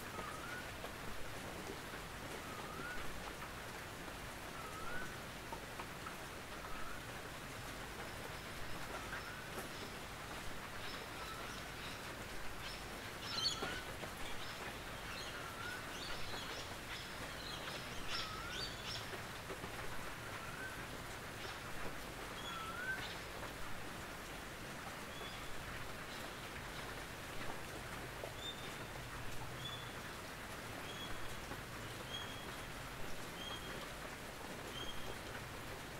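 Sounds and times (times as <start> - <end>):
rain on a tin roof: 0.0 - 35.9.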